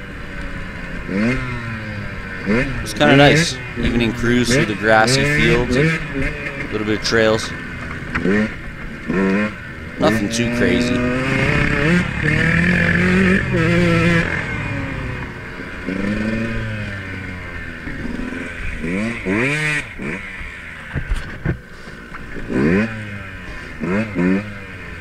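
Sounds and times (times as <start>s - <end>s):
dirt bike engine revving: 0.0s - 21.4s, 22.2s - 25.0s.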